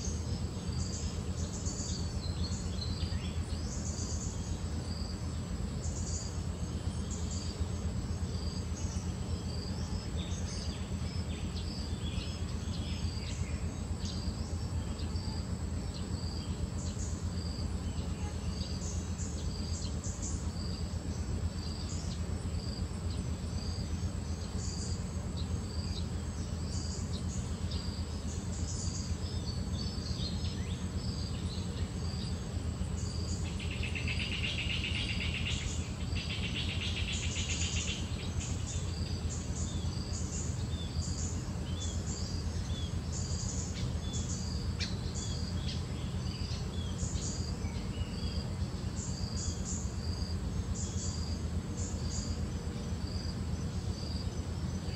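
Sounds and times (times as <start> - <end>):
birds chirping: 0.0 - 54.9
insects calling: 0.0 - 54.9.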